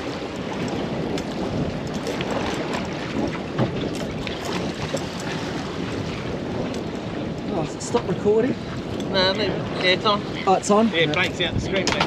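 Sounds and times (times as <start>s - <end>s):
water washing against boat hull: 0.0s - 12.0s
wind buffeting microphone: 0.0s - 12.0s.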